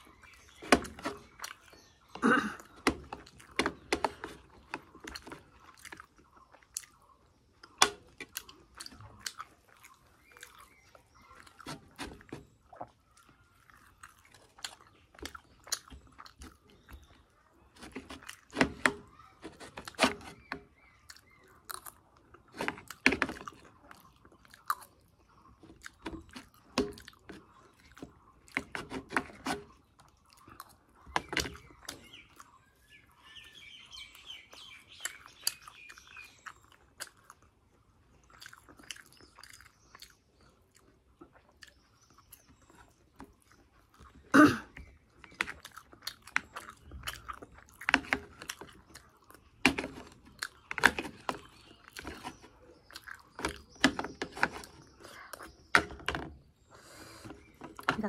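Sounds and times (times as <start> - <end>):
chewing and lip-smacking: 0.0 - 55.7.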